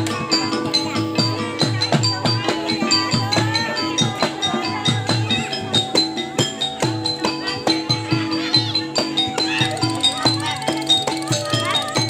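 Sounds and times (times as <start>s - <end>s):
gamelan music: 0.0s - 12.0s.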